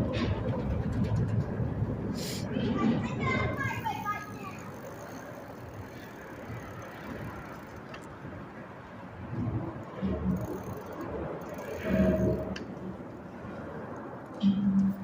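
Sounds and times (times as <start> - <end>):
bicycle tyres rolling: 0.0 - 15.0.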